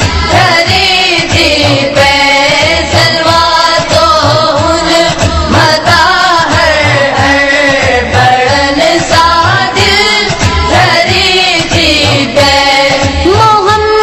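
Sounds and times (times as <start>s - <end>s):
man singing devotional song: 0.0s - 13.7s.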